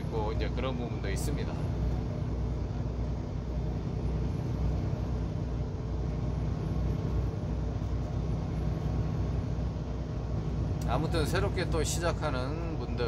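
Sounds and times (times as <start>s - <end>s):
truck engine drone: 0.0s - 13.0s.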